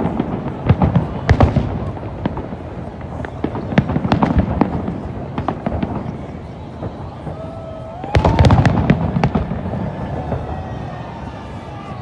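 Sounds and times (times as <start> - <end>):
fireworks bangs and cracks: 0.0 - 12.0
fireworks rumble: 0.0 - 12.0.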